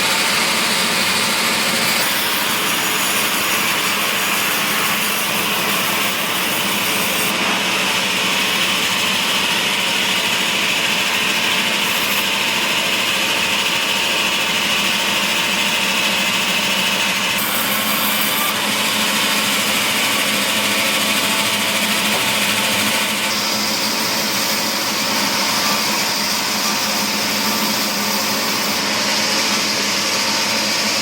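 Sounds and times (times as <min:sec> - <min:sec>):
woodworking machine running: 0:00.0 - 0:31.0.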